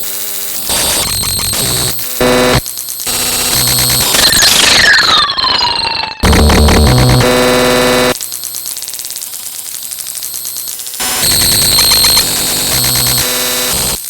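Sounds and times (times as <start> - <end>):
harsh electronic buzzing: 0.0 - 4.9, 6.2 - 14.0.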